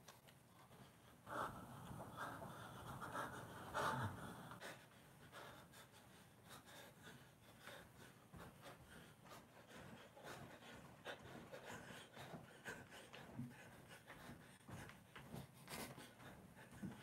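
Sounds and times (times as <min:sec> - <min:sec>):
man breathing hard: 0:01.2 - 0:17.0.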